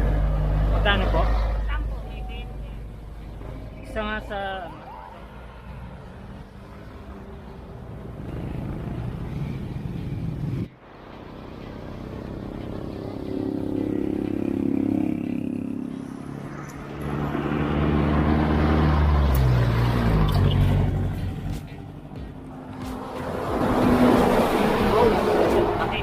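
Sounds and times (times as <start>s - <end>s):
vehicle engines passing: 0.0s - 26.0s.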